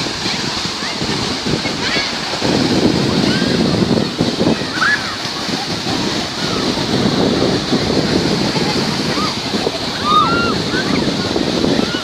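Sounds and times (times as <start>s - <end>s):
surf washing onto shore: 0.0s - 12.0s
wind buffeting microphone: 0.0s - 12.0s.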